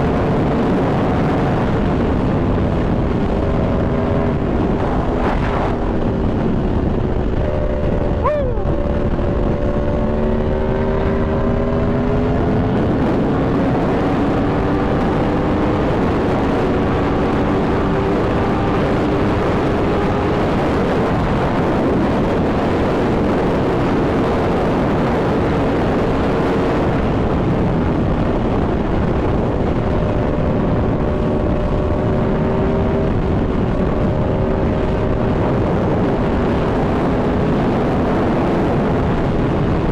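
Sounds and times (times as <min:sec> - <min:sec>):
motorcycle engine accelerating: 0:00.0 - 0:39.9
rushing wind noise: 0:00.0 - 0:39.9.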